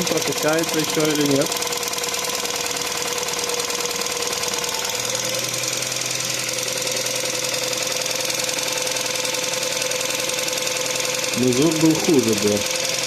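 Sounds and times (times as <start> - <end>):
car engine idling: 0.0 - 13.0
ticking hydraulic lifters: 0.0 - 13.0.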